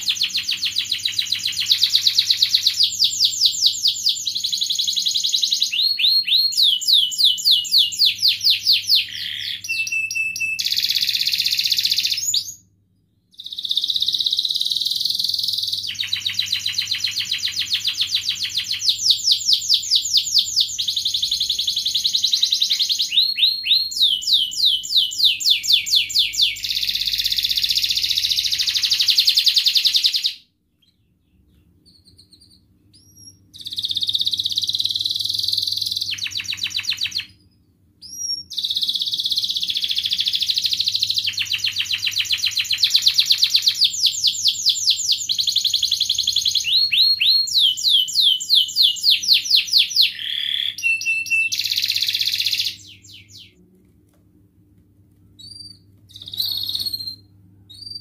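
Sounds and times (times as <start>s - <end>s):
canary singing: 0.0s - 12.7s, 13.3s - 53.6s, 55.4s - 58.0s
faint low hum: 0.0s - 58.0s.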